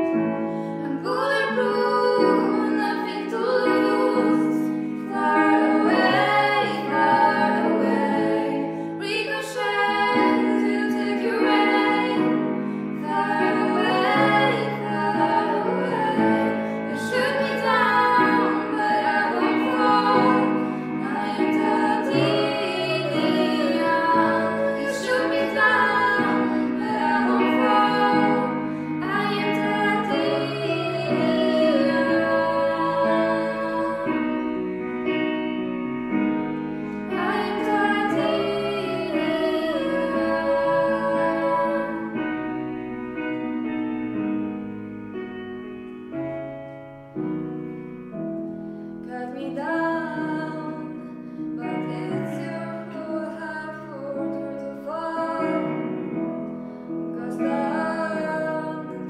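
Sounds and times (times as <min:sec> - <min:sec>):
women singing a duet: 0:00.0 - 0:34.8, 0:36.7 - 0:42.5, 0:49.0 - 0:56.2, 0:57.1 - 0:59.0
instrumental accompaniment: 0:00.0 - 0:53.5.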